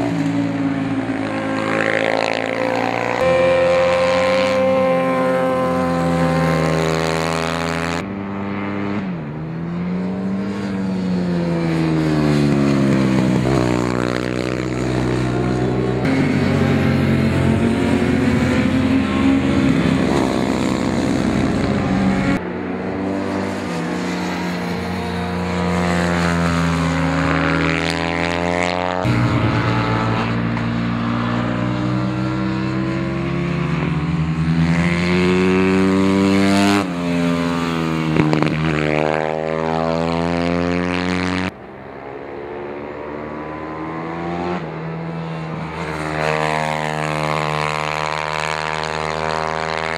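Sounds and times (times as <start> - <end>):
motorcycle engine at high revs: 0.0 - 41.6, 42.4 - 49.9.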